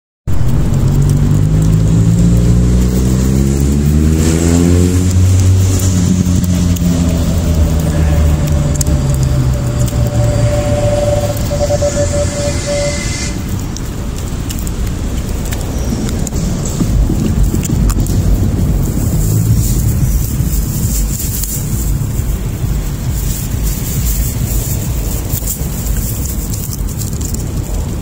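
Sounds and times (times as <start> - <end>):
vehicle engine running: 0.3 - 28.0.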